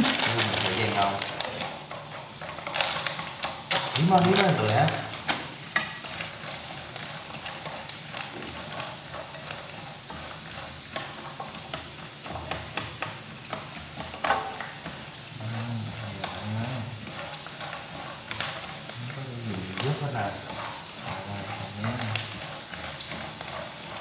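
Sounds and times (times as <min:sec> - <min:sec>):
pasta sizzling in a pan: 0:00.0 - 0:24.0
spatula scraping a pan: 0:00.0 - 0:24.0.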